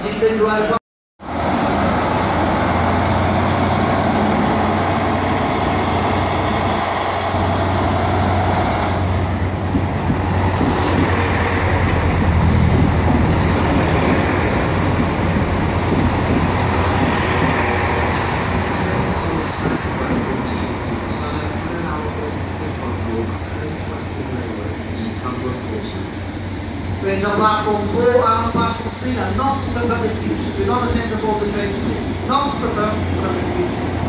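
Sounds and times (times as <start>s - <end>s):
diesel locomotive humming: 1.2s - 34.0s
train rumbling past: 1.2s - 34.0s.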